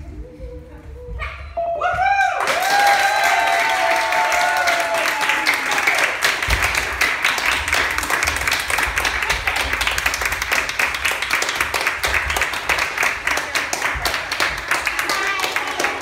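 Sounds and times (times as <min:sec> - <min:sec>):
audience clapping: 0:02.4 - 0:16.0.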